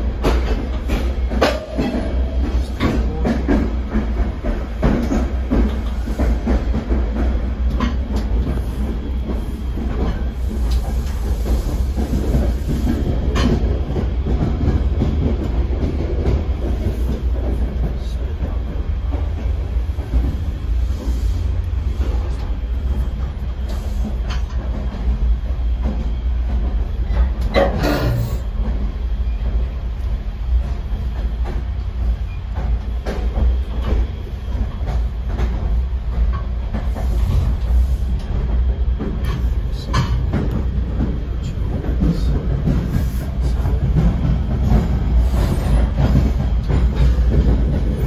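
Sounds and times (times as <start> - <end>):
train wheels rumbling on track: 0.0 - 48.0.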